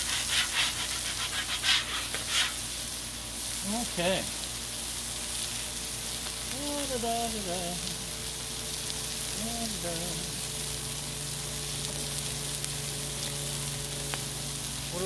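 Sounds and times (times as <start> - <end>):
burger patties sizzling on griddle: 0.0 - 15.0.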